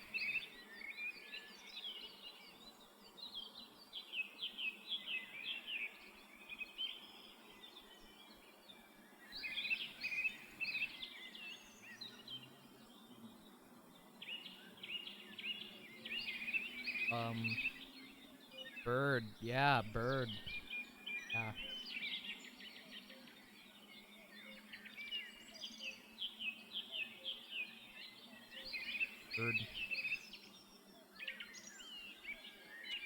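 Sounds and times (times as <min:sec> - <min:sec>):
songbirds chirping and singing: 0:00.0 - 0:33.0.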